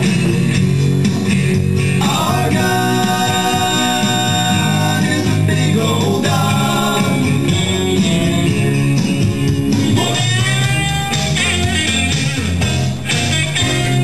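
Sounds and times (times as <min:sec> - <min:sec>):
song with guitar and singing: 0:00.0 - 0:14.0.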